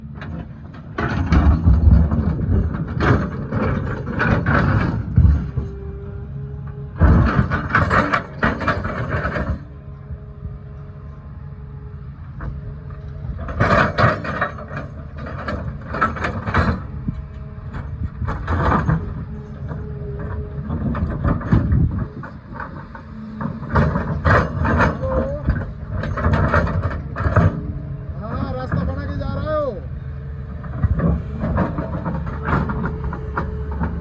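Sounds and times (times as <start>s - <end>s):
digging clattering and scraping: 0.0s - 5.8s, 7.0s - 9.7s, 12.3s - 29.2s, 29.9s - 34.0s
excavator diesel engine droning: 0.0s - 34.0s.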